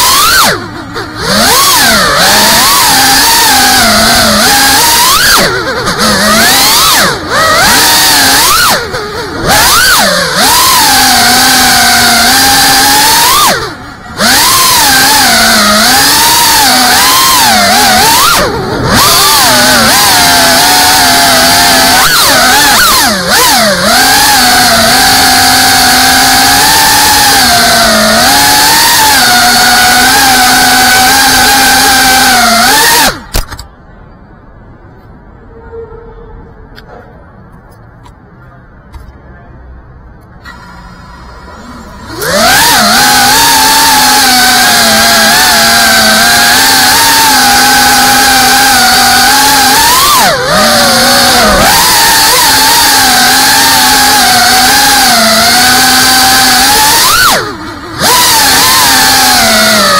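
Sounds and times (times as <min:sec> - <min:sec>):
quadcopter motors whining: 0:00.0 - 0:33.6, 0:40.4 - 0:59.9.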